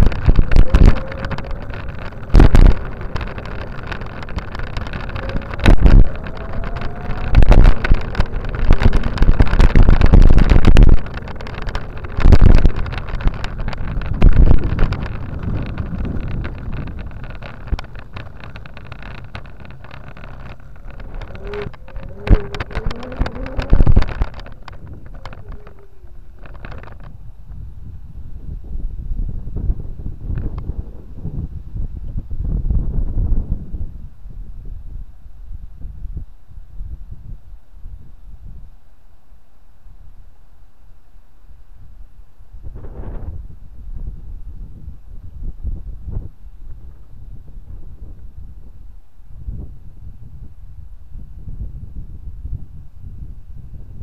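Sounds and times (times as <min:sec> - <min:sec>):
wind buffeting microphone: 0:00.0 - 0:38.8, 0:41.7 - 0:54.0.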